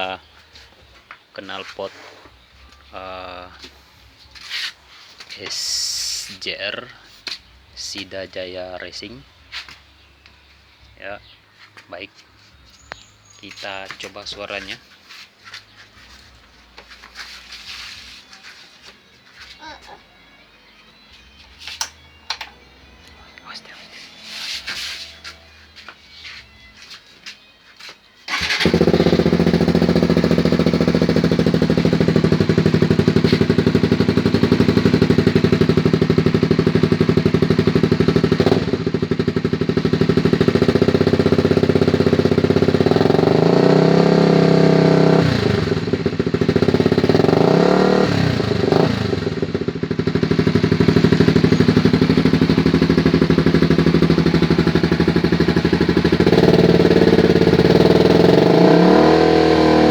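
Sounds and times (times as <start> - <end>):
motorcycle engine idling and revving: 0.0 - 11.4, 12.3 - 20.3, 28.3 - 59.9.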